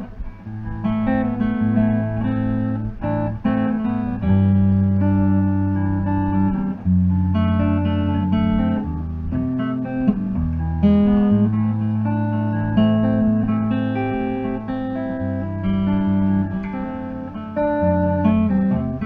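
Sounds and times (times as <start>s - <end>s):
clean guitar chords ringing: 0.0s - 19.0s.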